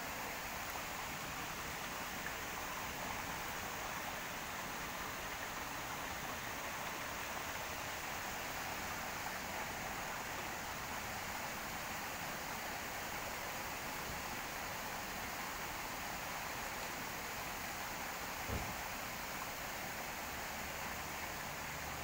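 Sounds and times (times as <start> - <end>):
rushing running water: 0.0 - 22.0.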